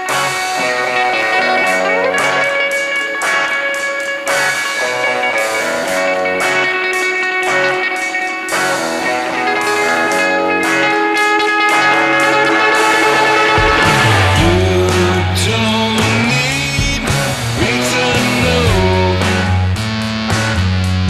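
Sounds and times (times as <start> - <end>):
guitar picking and strumming: 0.0 - 21.0.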